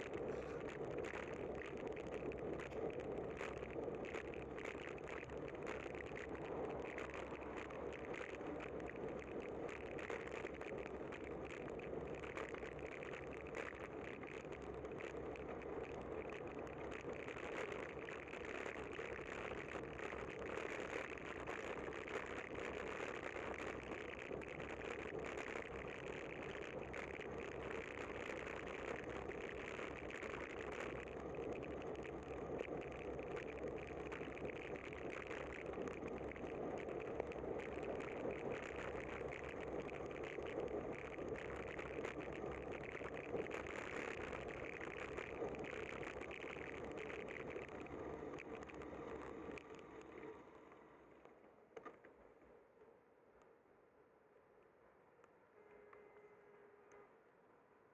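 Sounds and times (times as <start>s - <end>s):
fine crackling rattle: 0.0s - 50.4s
car and tyre noise on wet road: 0.0s - 51.9s.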